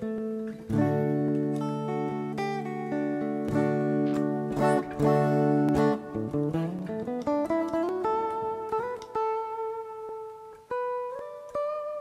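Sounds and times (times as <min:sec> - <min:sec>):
clean electric guitar notes: 0:00.0 - 0:12.0.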